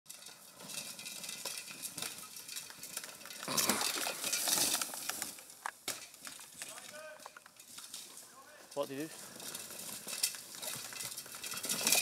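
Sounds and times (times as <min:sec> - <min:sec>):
bike clicks and rattles: 0:00.1 - 0:12.0
bike tyres crunching on dirt: 0:00.1 - 0:12.0.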